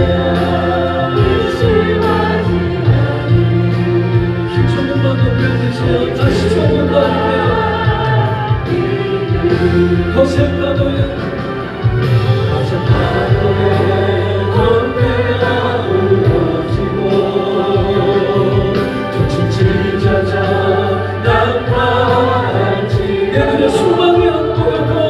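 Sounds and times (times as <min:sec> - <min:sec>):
choir singing: 0:00.0 - 0:25.0
instrumental accompaniment: 0:00.0 - 0:25.0.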